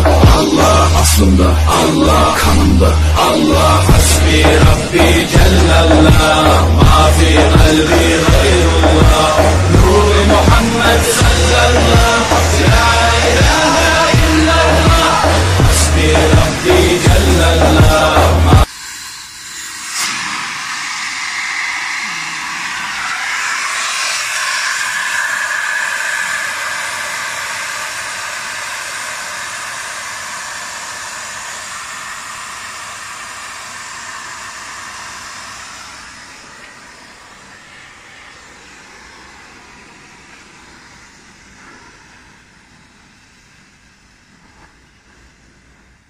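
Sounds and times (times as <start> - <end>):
refrigerant gas hissing from pipe: 0.0 - 46.0.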